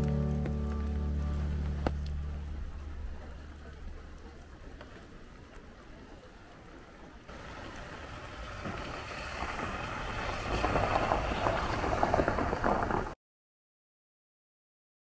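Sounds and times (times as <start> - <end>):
rain: 0.0 - 13.2
wind: 0.0 - 13.2.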